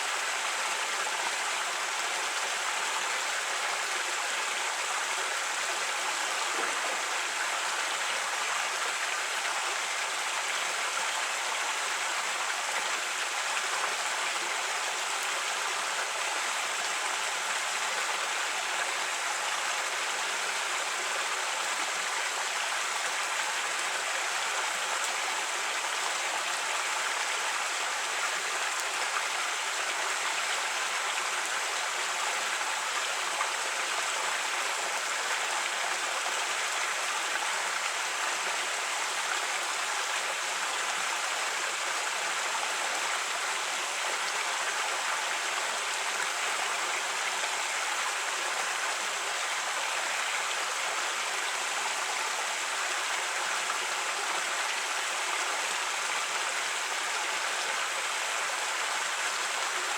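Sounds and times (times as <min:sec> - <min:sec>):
creek water flowing over rocks: 0:00.0 - 0:59.9.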